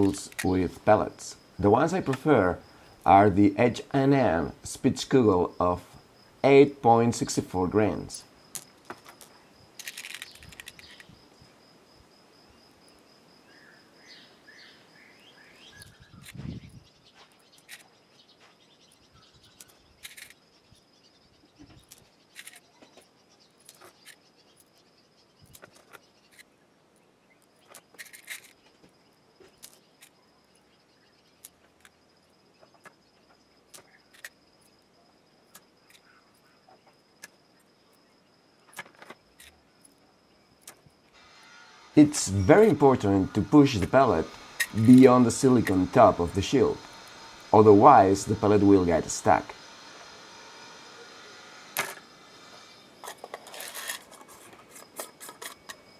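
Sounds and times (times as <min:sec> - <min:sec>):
high insect trill: 0:00.0 - 0:55.9.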